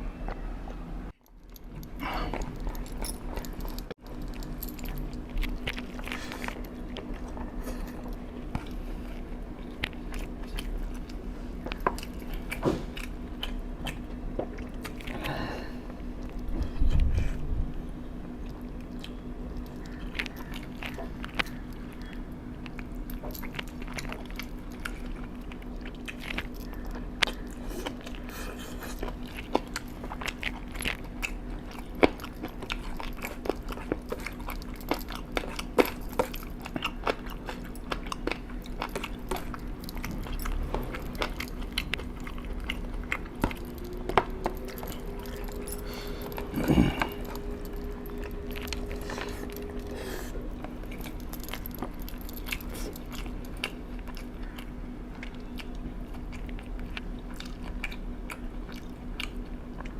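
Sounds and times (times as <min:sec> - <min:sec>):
low hum: 0:00.0 - 0:59.9
person chewing crunchy food: 0:01.1 - 0:59.9.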